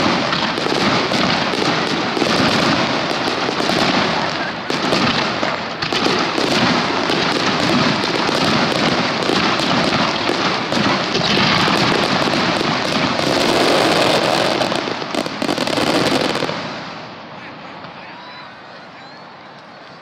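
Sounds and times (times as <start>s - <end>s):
fireworks bursting and crackling: 0.0s - 18.3s.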